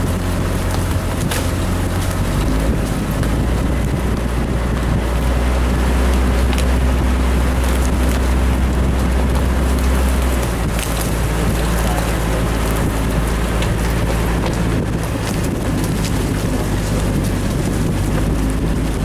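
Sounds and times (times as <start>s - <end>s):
small engine running: 0.0s - 19.0s
wind noise on microphone: 0.0s - 19.0s.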